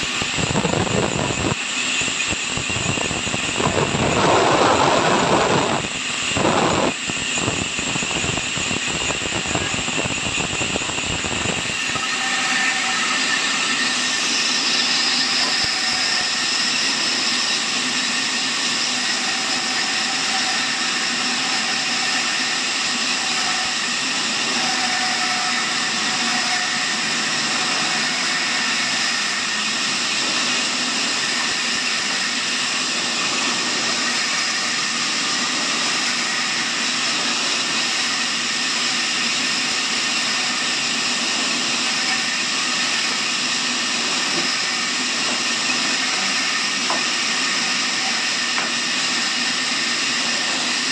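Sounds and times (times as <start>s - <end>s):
band saw cutting wood: 0.0s - 50.9s
sawmill whine: 0.0s - 50.9s.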